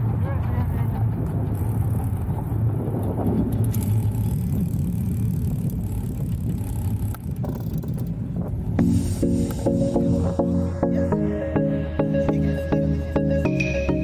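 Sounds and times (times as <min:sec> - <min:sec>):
motor vehicle rumbling: 0:00.0 - 0:14.0.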